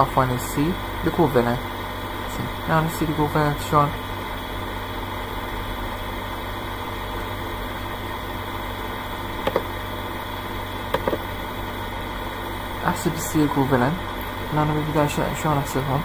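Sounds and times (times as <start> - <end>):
room noise hum and hiss: 0.0 - 16.0.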